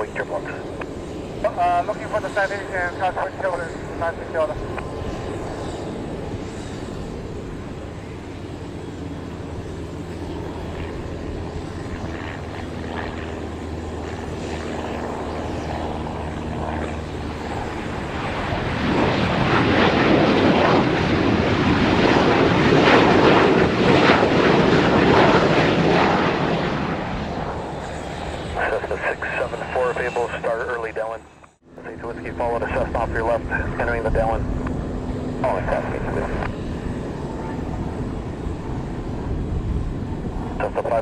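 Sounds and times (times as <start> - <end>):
jet engine drone and rush: 0.0 - 41.0.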